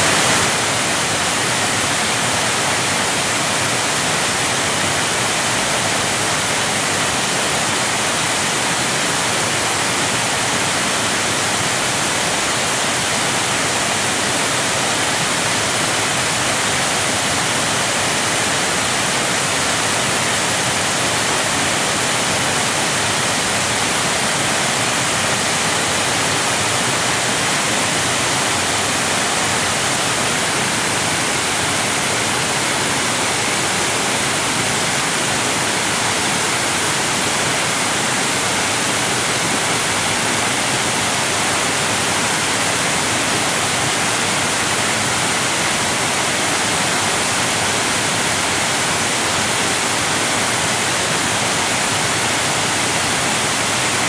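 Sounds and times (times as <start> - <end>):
whitewater rushing over rocks: 0.0 - 54.0.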